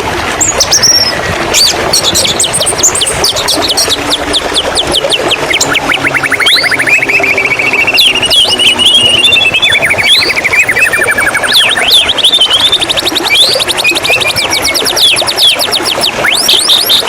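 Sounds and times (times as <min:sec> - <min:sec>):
bird singing trills and whistles: 0:00.4 - 0:17.0.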